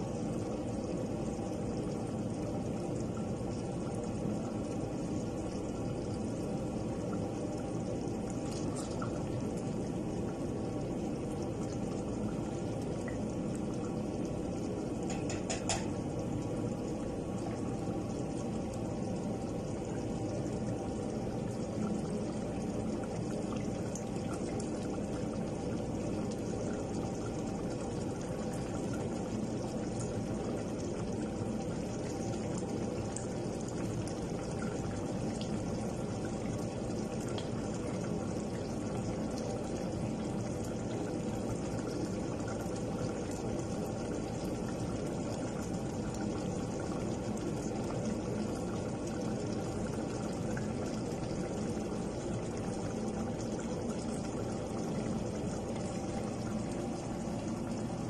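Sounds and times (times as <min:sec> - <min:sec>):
stew bubbling in a pot: 0:00.0 - 0:58.0.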